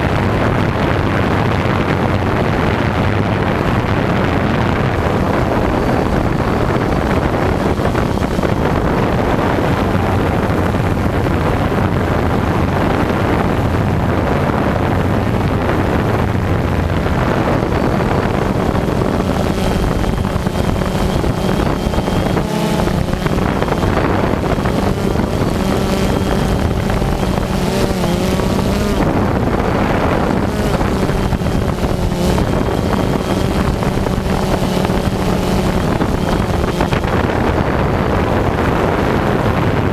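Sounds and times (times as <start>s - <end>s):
drone motors buzzing: 0.0s - 39.9s
wind on microphone: 0.0s - 39.9s.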